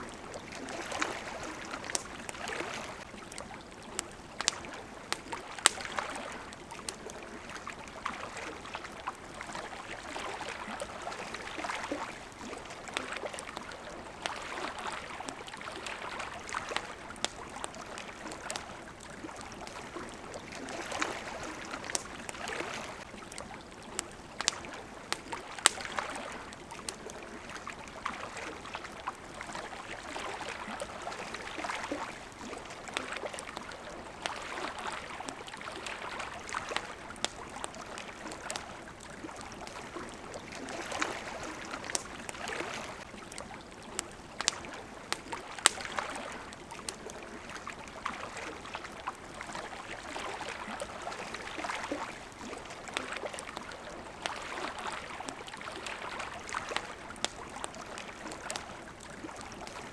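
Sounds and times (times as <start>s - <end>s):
campfire crackling and popping: 0.0s - 59.9s
water lapping: 0.0s - 59.9s.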